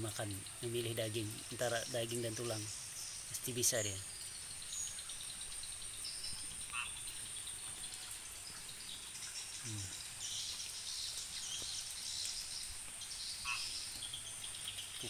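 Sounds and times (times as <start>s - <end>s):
frogs calling: 0.0s - 15.0s
insects droning: 0.0s - 15.0s.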